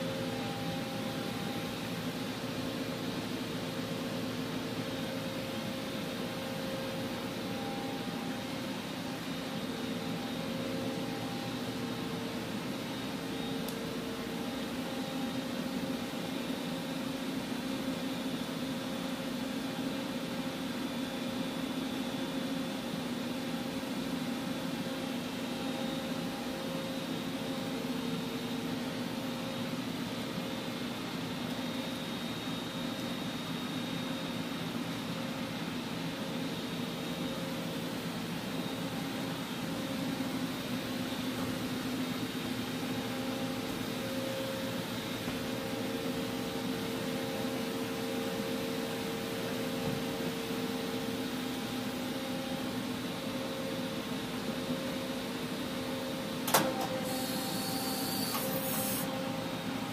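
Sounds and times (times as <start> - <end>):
machine hum with steady tones: 0.0 - 59.9.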